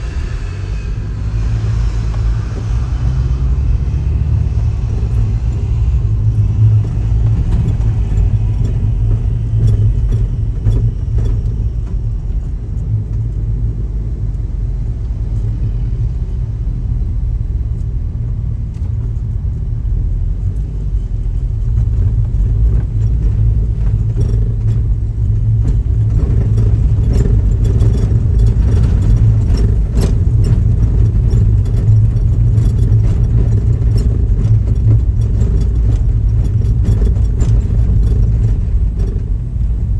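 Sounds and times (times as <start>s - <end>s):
helicopter rotor and engine rumble: 0.0s - 18.0s, 19.0s - 39.9s.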